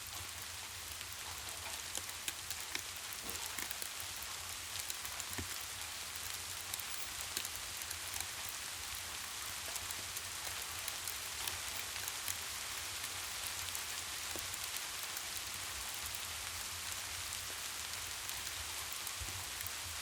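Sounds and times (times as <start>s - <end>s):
raindrops ticking on a surface: 0.0s - 20.0s.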